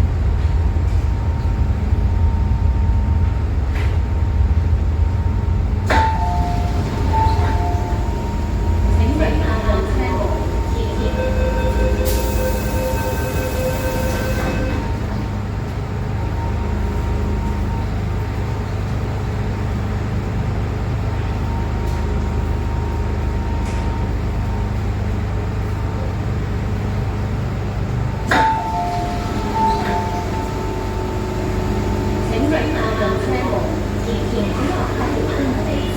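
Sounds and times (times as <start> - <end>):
train wheels rumbling on track: 0.0 - 35.9.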